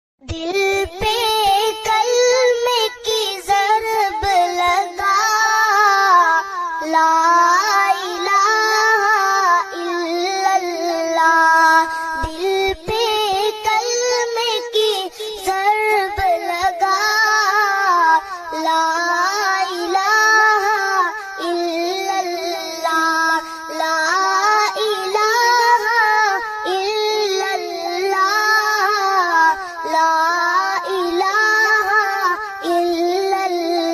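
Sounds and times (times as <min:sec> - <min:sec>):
solo voice singing devotional song: 0:00.2 - 0:33.9.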